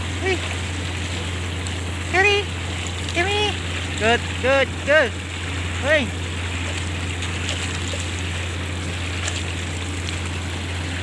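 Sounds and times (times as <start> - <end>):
pool water trickling and lapping: 0.0 - 11.0
steady low hum: 0.0 - 11.0.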